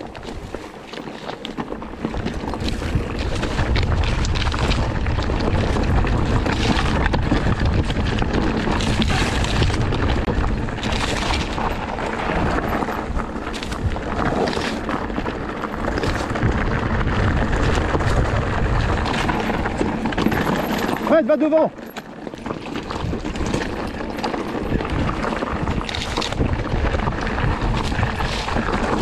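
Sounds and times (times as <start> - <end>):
mountain bike rattling on rocks: 0.0 - 29.0
wind buffeting microphone: 1.8 - 21.7, 22.3 - 29.0.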